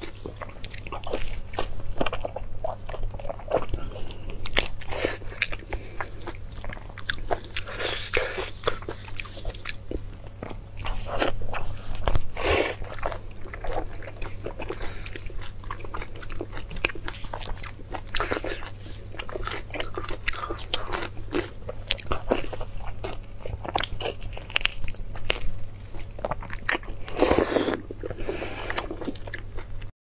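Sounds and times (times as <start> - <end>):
person chewing food: 0.0 - 29.9
steady low hum: 0.0 - 29.9.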